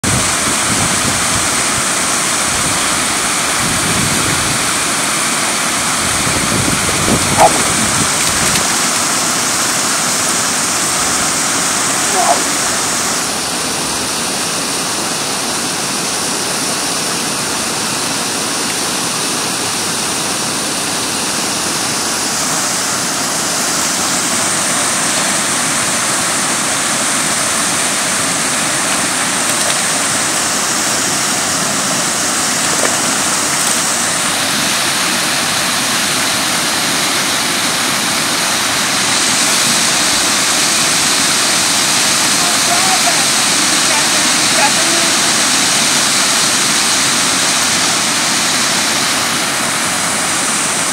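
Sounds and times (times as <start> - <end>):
waterfall rushing into pool: 0.0 - 50.9.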